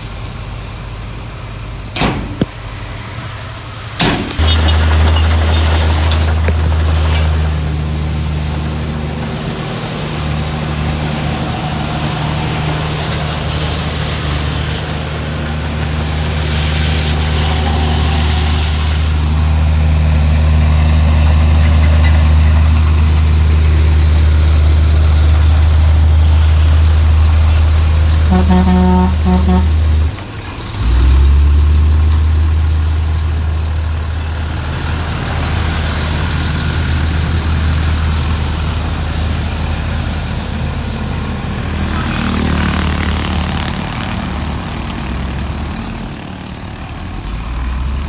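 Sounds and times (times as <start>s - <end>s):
heavy diesel machinery engine drone: 0.0s - 48.0s.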